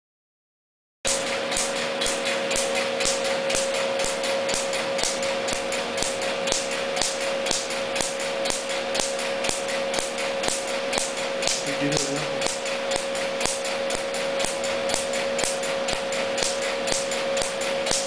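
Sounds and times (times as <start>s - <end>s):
laser pulses snapping: 1.1s - 18.0s
steady machine hum: 1.1s - 18.0s.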